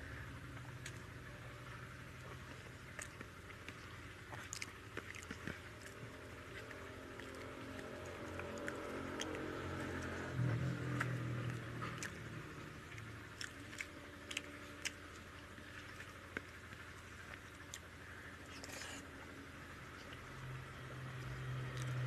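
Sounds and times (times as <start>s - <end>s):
low steady hum: 0.0s - 22.0s
person chewing food: 0.5s - 22.0s.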